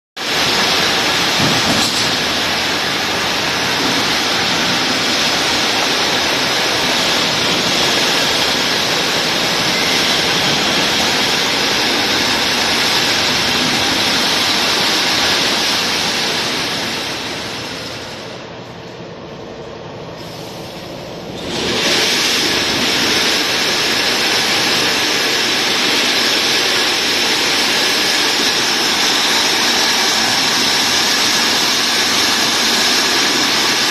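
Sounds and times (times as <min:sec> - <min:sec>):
factory machinery rushing noise: 0:00.2 - 0:33.9.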